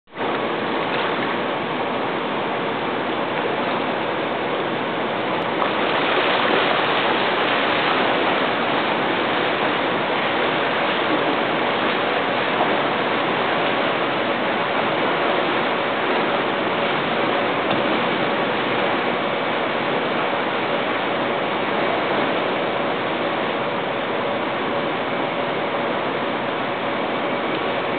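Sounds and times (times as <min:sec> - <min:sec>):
rushing water in pool: 0:00.1 - 0:27.9
swimmer splashing: 0:00.1 - 0:27.9.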